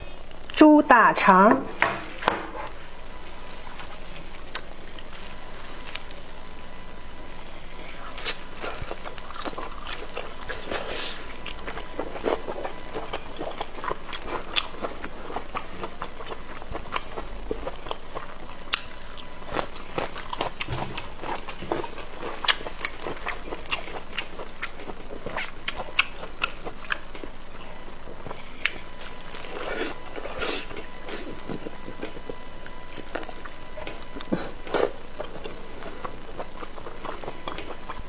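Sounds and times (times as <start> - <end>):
steady low hiss: 0.0 - 38.0
person chewing wetly: 7.5 - 38.0.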